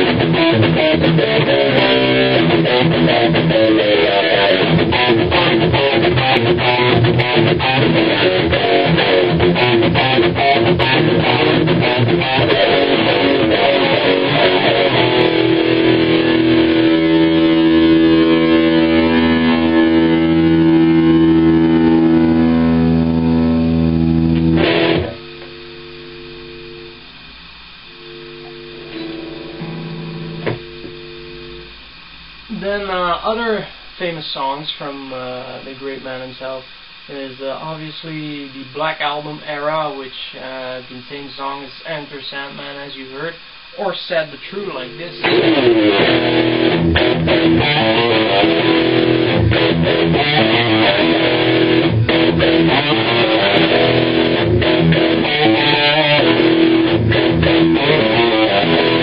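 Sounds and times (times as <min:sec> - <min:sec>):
distorted electric guitar riff: 0:00.0 - 0:34.2, 0:40.8 - 0:59.0
amp hum: 0:00.0 - 0:59.0.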